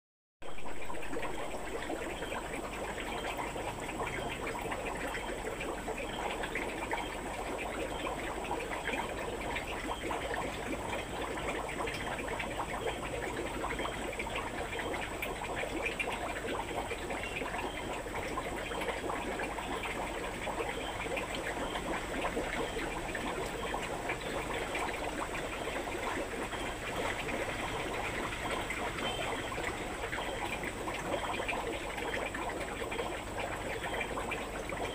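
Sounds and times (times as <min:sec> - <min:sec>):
water trickling and bubbling: 0:00.4 - 0:34.9.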